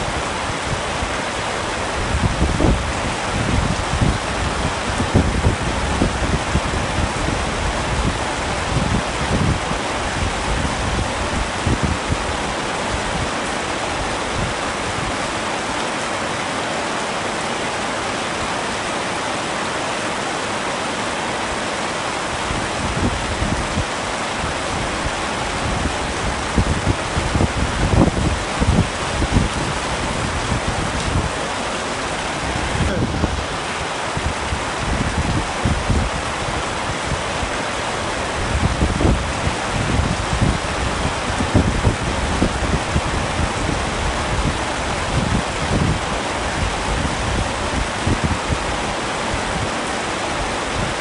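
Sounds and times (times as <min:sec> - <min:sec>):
heavy rain on a tent: 0:00.0 - 0:51.0.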